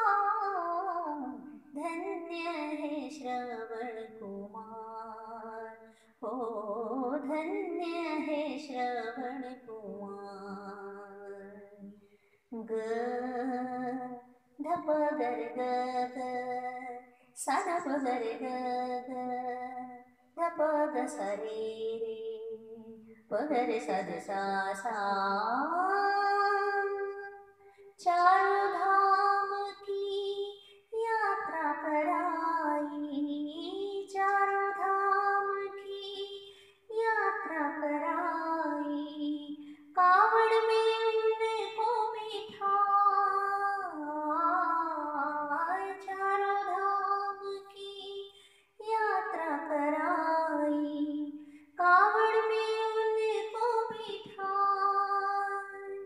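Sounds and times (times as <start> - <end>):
woman singing devotional song: 0.0 - 56.0.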